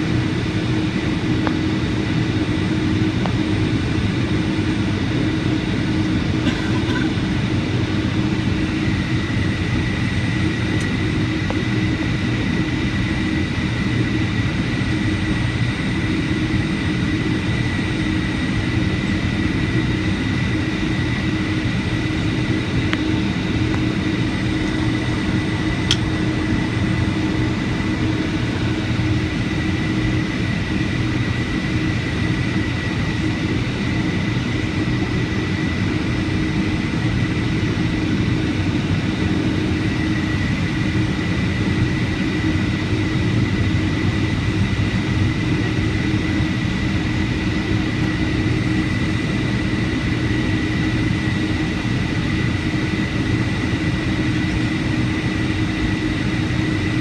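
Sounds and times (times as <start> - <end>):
jet engine high whine: 0.0 - 57.0
jet engines low rumble: 0.0 - 57.0.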